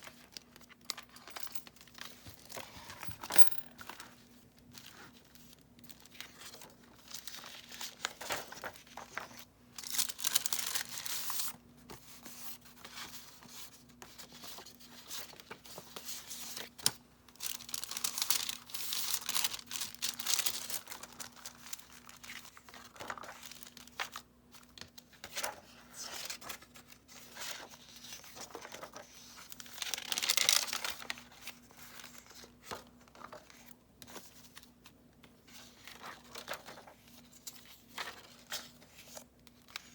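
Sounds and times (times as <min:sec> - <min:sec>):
paper pages rustling: 0:00.0 - 0:39.9.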